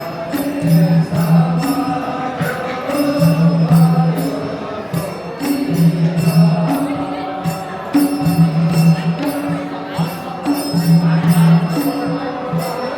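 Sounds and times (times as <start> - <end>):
percussion strikes: 0.0 - 12.9
voices chanting melodic phrase: 0.0 - 12.9.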